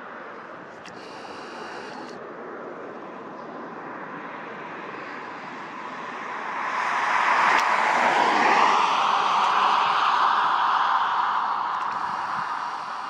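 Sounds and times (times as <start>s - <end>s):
jet aircraft passing overhead: 0.0s - 13.0s.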